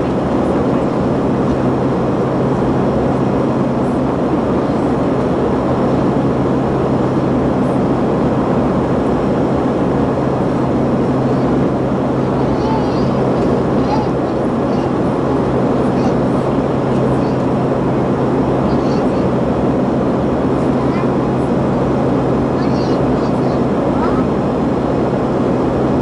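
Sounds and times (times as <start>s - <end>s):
aircraft cabin rush: 0.0s - 26.0s
low hum: 0.0s - 26.0s.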